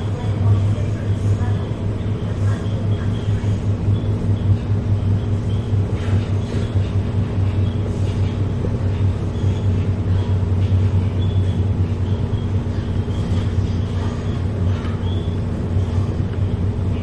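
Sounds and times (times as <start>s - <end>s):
train cabin hum and rumble: 0.0s - 17.0s.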